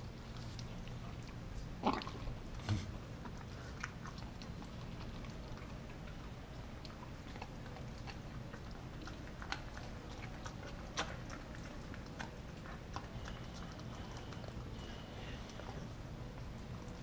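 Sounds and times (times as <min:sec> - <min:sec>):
dog chewing frozen meat: 0:00.0 - 0:17.0.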